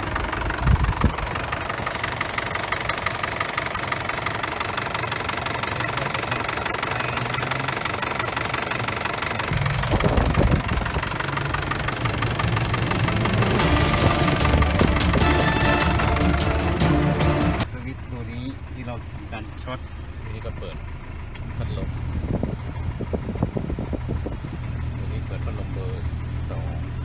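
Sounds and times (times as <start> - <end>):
pickup engine idling with clatter: 0.0 - 27.0.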